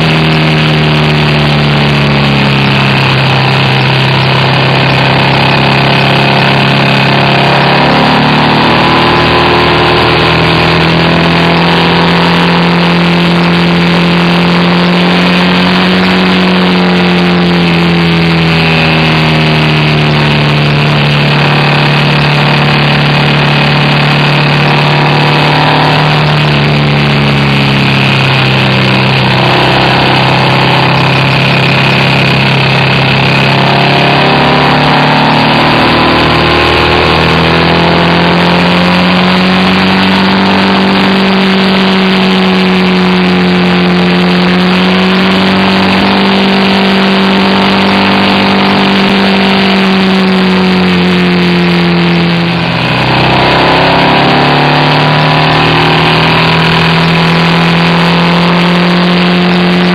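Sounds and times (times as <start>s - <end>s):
motorcycle engine under way: 0.0s - 59.9s.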